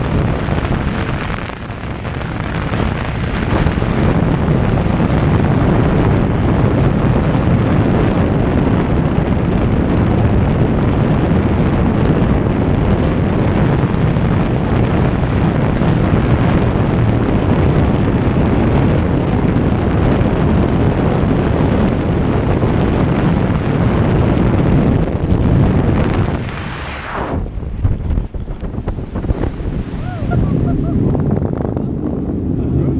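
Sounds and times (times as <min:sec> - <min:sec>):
boat engine: 0:00.0 - 0:32.9
water noise: 0:00.0 - 0:32.9
wind buffeting microphone: 0:00.0 - 0:32.9.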